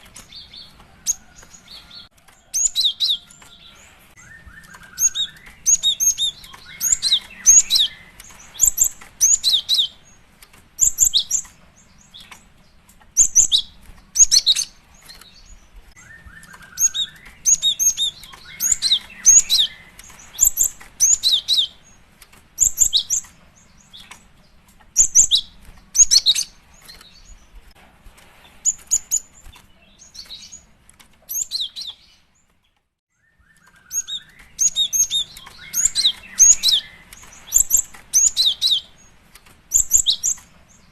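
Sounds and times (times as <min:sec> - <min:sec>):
bird chirping: 0:00.0 - 0:27.8, 0:28.4 - 0:40.9.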